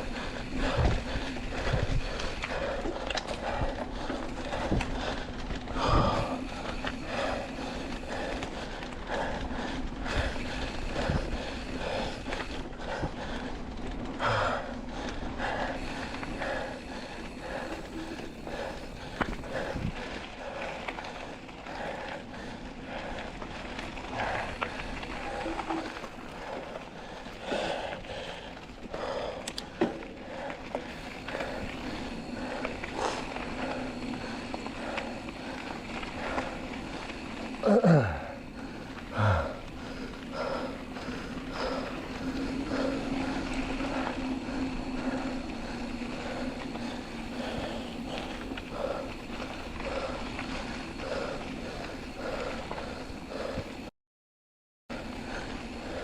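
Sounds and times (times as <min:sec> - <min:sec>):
bike tyres rumbling on dirt: 0:00.0 - 0:53.9, 0:54.9 - 0:56.0
rider breathing hard: 0:00.0 - 0:53.9, 0:54.9 - 0:56.0.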